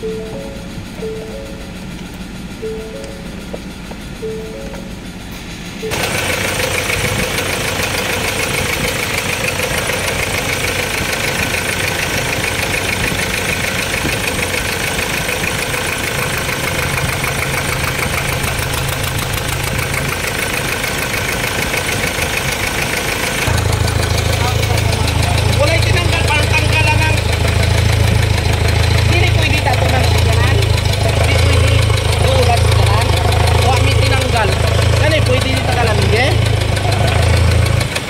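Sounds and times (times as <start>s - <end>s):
diesel engine idling with knock: 0.0s - 38.0s.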